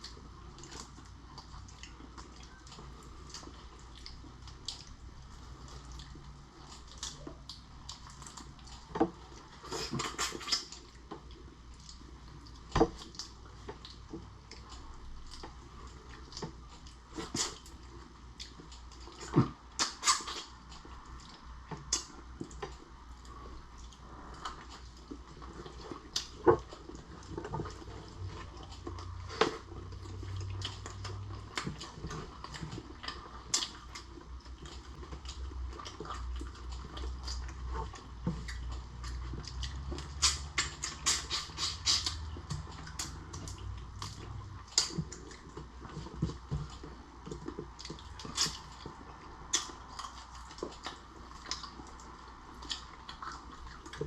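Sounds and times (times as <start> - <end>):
wet chewing smacks: 0.0 - 54.0.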